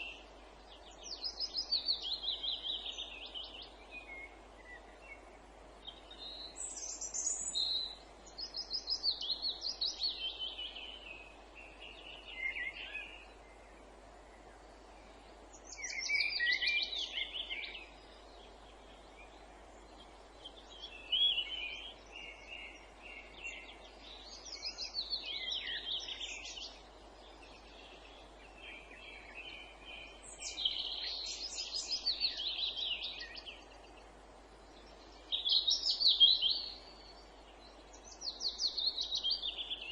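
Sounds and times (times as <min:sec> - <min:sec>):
faint background hiss: 0:00.0 - 0:39.9
songbirds trilling: 0:00.0 - 0:39.9.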